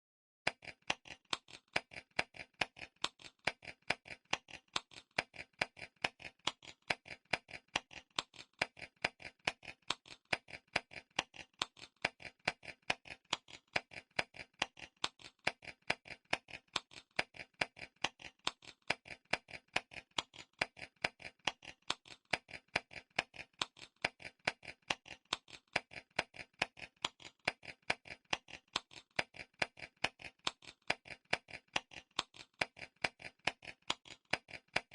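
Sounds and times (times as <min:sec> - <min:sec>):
clock timer ticking: 0:00.5 - 0:34.9.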